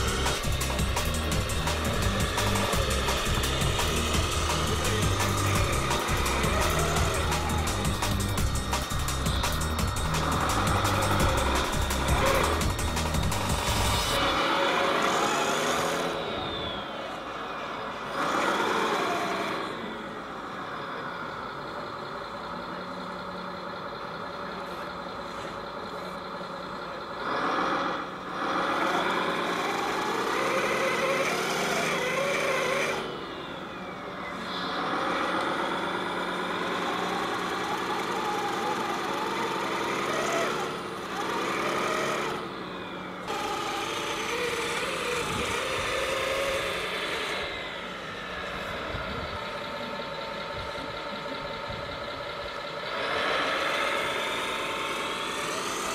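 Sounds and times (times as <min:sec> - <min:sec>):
toy truck diesel engine sound: 0:00.0 - 0:55.9.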